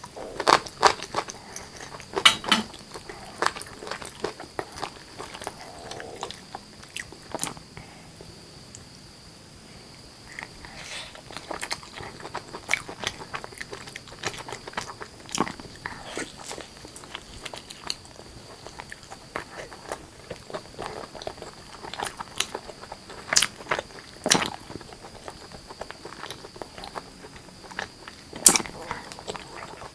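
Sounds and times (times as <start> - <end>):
close chewing and biting: 0.0 - 8.3, 10.1 - 29.9.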